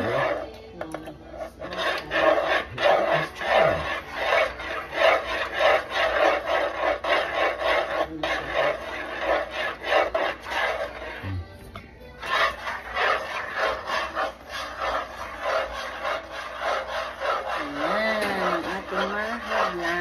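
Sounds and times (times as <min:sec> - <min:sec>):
wooden spoon scraping pot: 0:00.0 - 0:20.0.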